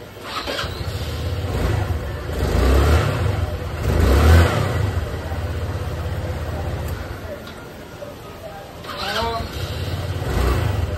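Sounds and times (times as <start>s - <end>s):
motorcycle engine revving: 0.2s - 7.2s, 8.8s - 10.9s.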